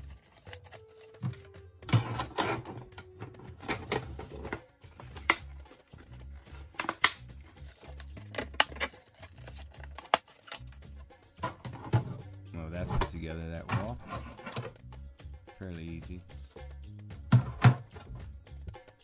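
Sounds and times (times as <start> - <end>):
faint background music: 0.0 - 19.0.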